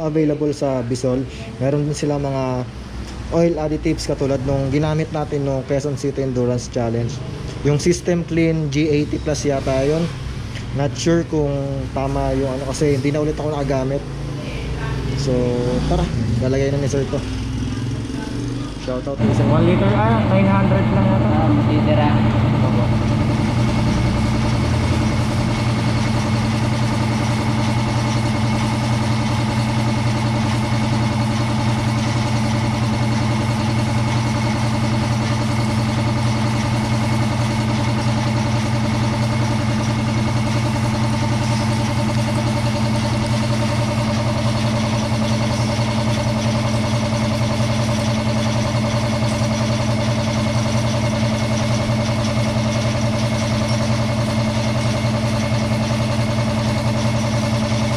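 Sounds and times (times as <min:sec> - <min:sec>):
machine humming: 0:00.0 - 0:57.9.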